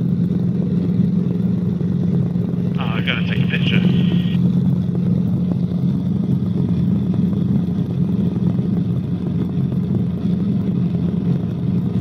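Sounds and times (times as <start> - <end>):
helicopter drone from cabin: 0.0 - 12.0.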